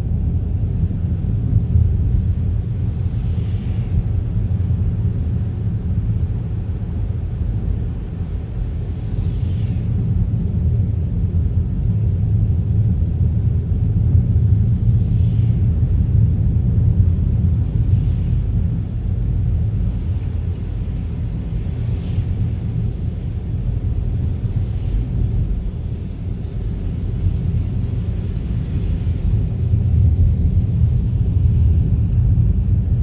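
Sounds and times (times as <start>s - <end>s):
car tyres and engine rumble: 0.0s - 33.0s.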